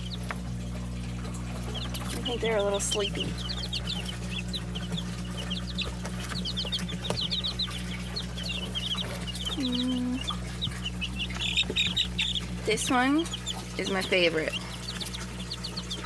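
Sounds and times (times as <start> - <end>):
baby chicks peeping: 0.0 - 16.0
steady low hum: 0.0 - 16.0.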